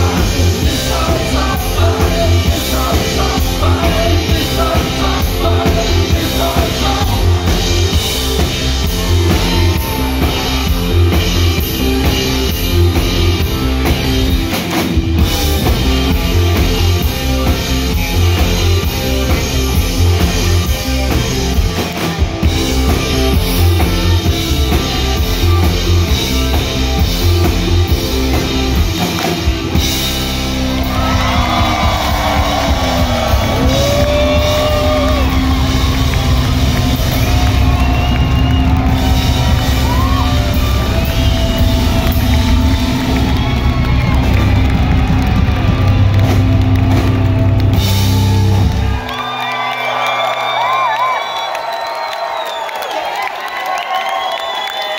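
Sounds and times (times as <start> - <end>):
rock band playing loudly: 0.0 - 52.4.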